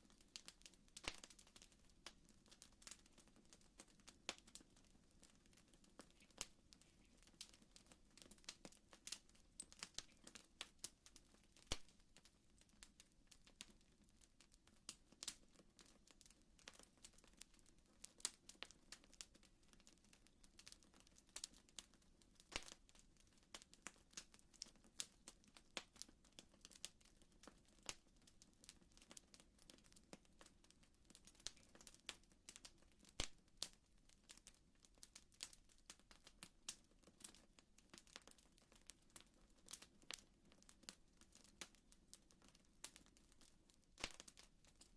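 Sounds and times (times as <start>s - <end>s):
fire crackling: 0.0s - 44.9s.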